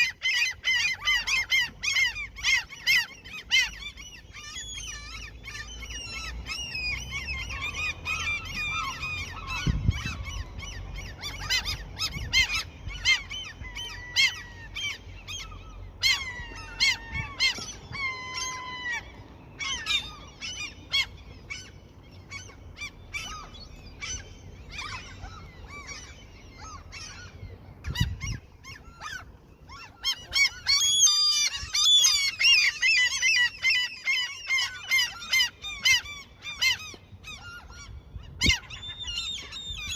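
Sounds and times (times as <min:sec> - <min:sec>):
seagulls calling: 0:00.0 - 0:39.9.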